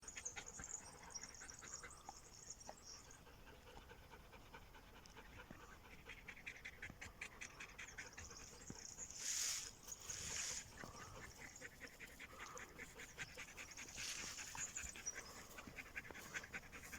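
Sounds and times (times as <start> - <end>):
dog panting: 0.0 - 16.9.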